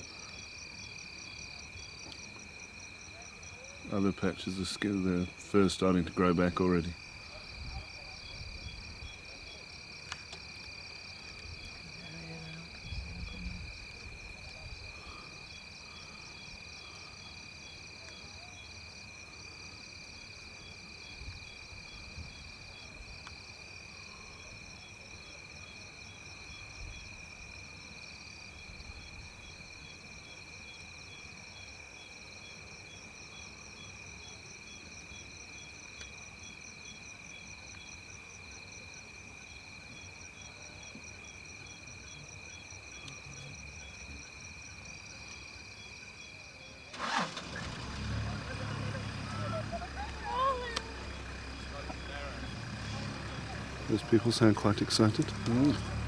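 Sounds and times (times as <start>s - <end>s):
crickets trilling: 0.0s - 56.0s
insects pulsing chirps: 0.0s - 56.0s.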